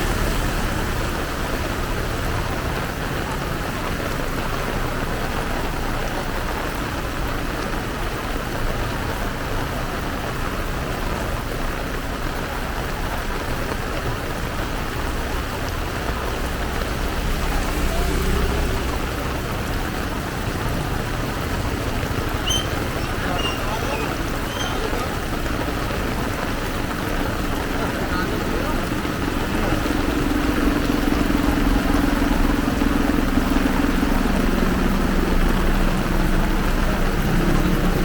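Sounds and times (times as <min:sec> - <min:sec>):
heavy rain pouring: 0:00.0 - 0:38.0.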